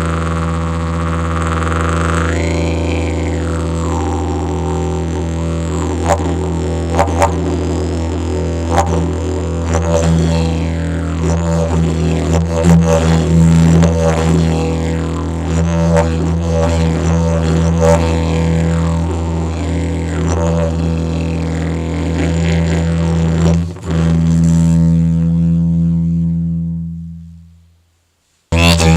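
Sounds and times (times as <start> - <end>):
didgeridoo drone: 0.0 - 27.7, 28.5 - 28.9.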